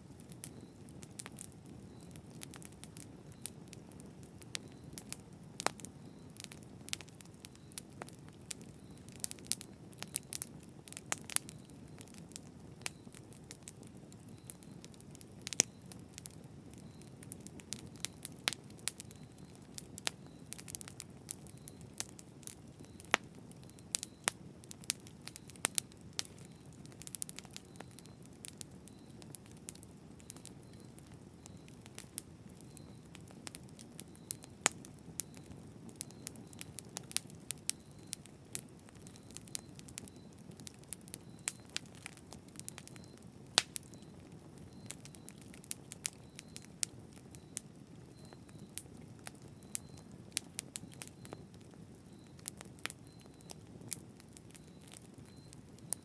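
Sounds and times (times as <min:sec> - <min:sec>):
burning wood crackling: 0:00.0 - 0:56.0
campfire rumble: 0:00.0 - 0:56.0.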